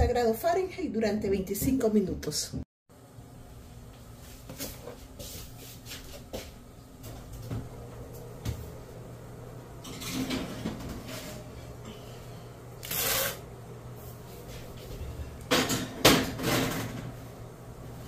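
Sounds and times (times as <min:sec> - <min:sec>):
steady low hum: 0:02.9 - 0:18.0.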